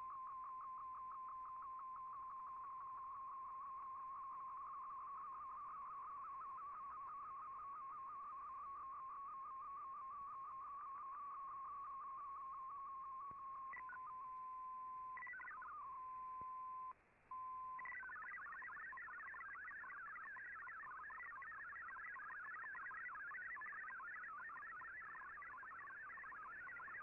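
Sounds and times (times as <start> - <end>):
warbling digital radio tones: 0.0 - 16.2, 17.4 - 27.0.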